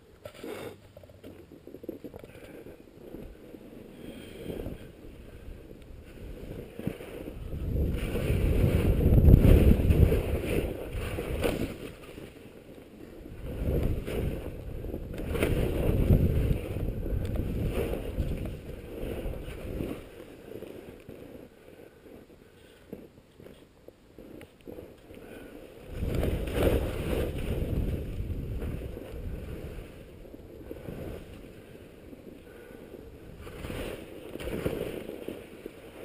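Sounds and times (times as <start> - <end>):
skis scraping on snow: 0.1 - 36.0
wind rushing over microphone: 1.5 - 36.0.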